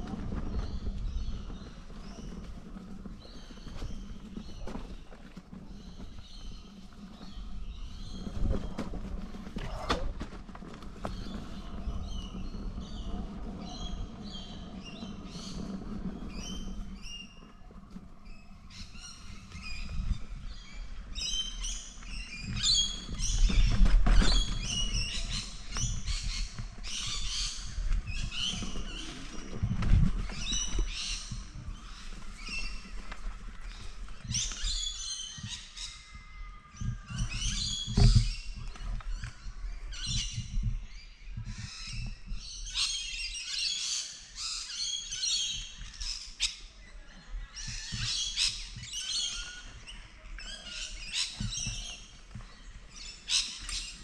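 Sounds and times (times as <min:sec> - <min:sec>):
wind rumble: 0:00.0 - 0:43.5
birds chirping: 0:00.0 - 0:54.0.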